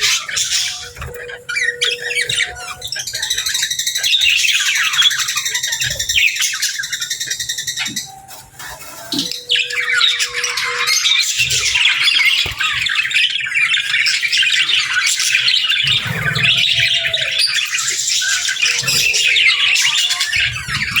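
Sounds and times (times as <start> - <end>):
budgerigars chattering: 0.0 - 21.0.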